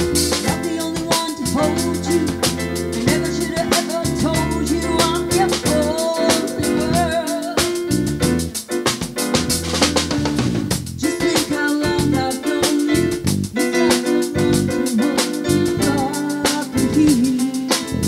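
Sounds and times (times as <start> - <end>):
electric bass: 0.0 - 8.6, 9.3 - 13.6, 14.4 - 14.9, 15.5 - 16.2, 16.8 - 17.3
drum kit beat: 0.0 - 18.0
keyboard: 0.0 - 18.0
woman singing: 0.4 - 7.9, 11.0 - 18.0.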